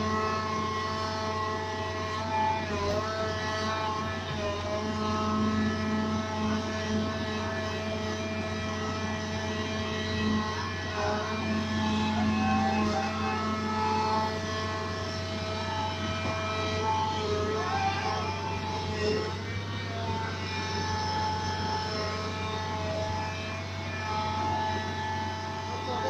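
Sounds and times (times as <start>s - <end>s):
diesel engine running: 0.0s - 26.0s
hydraulic whine: 0.0s - 26.0s.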